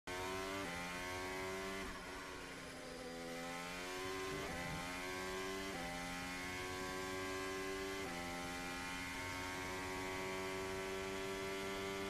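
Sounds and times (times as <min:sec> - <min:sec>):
racing car engine accelerating: 0:00.1 - 0:12.0.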